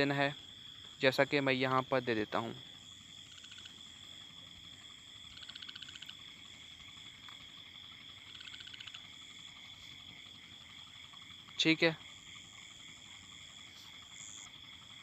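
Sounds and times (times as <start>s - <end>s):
rapidly pulsing animal calls: 0.0s - 15.0s.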